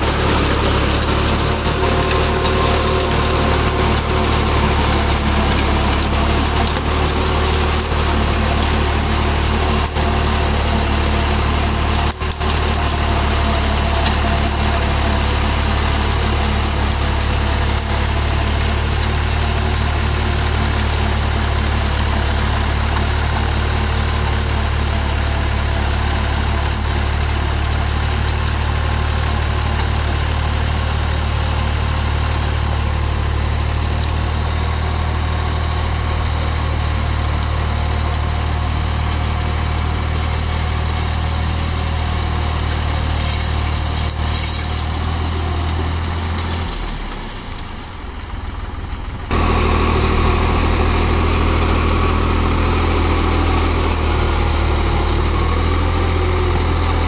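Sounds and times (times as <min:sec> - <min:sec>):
rotor blades churning soil: 0:00.0 - 0:57.0
tractor diesel engine under load: 0:00.0 - 0:57.0.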